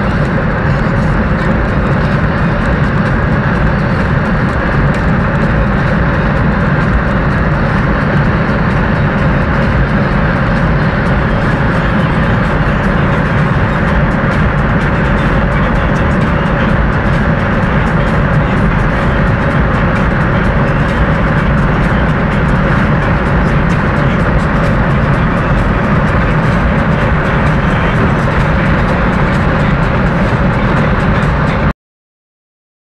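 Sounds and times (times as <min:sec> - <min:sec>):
car engine at speed: 0:00.0 - 0:31.7
wind noise: 0:00.0 - 0:31.7.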